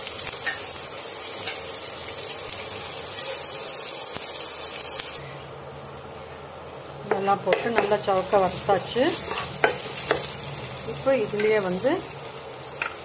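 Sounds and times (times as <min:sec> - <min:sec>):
oil sizzling in a pan: 0:00.0 - 0:05.3, 0:05.9 - 0:13.0.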